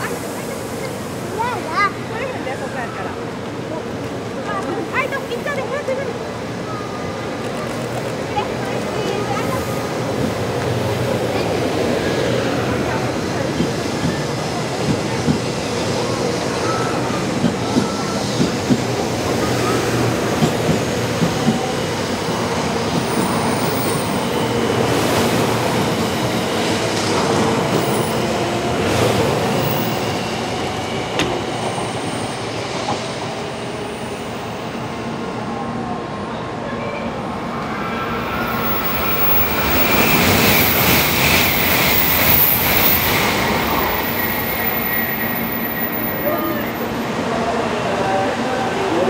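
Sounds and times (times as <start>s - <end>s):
train wheels rumbling on rail: 0.0s - 35.4s, 38.1s - 49.0s.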